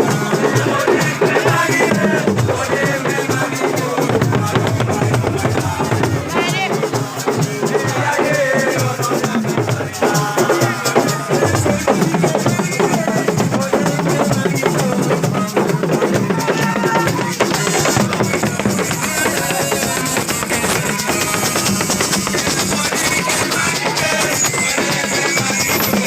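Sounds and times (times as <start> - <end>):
fast hand drumming: 0.0 - 26.0
voices singing: 0.0 - 26.0.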